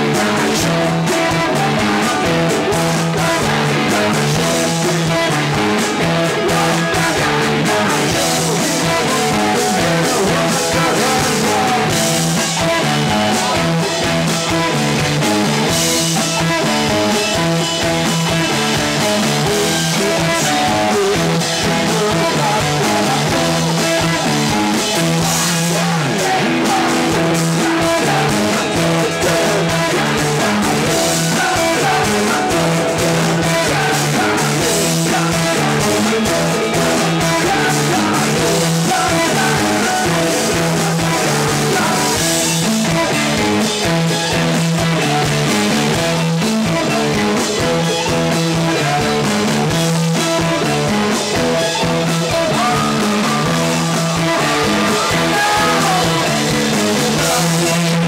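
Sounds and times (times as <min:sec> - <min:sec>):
loud electric guitars: 0:00.0 - 0:58.0
man singing: 0:00.0 - 0:58.0.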